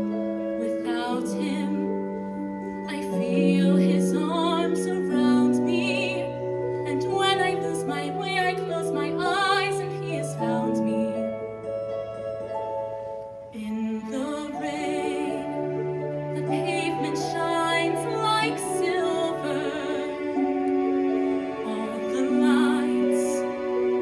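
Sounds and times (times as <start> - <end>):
soft sustained accompaniment: 0.0 - 24.0.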